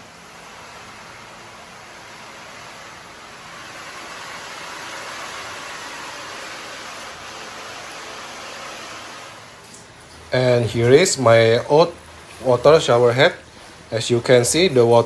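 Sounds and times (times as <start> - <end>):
shower head spraying water: 0.0 - 13.3.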